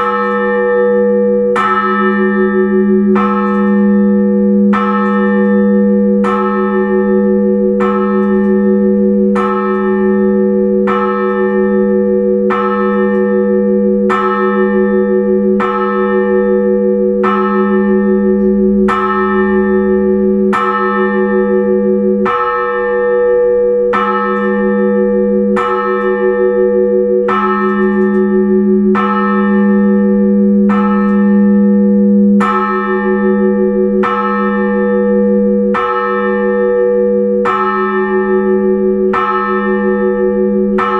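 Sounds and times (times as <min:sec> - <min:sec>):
church bell tolling: 0:00.0 - 0:40.9.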